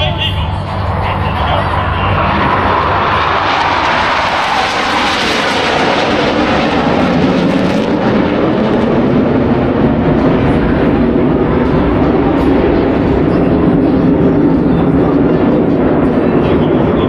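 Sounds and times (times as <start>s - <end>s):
jets roaring past: 0.0s - 17.0s.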